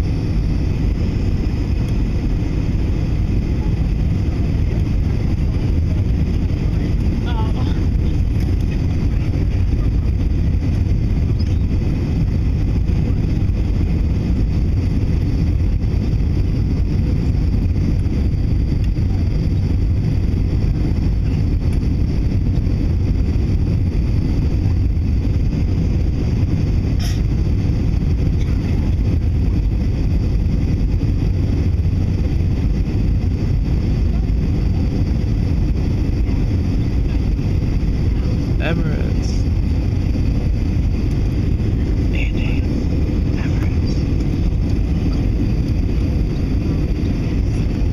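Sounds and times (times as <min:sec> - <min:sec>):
airplane engines rumbling in cabin: 0:00.0 - 0:47.9.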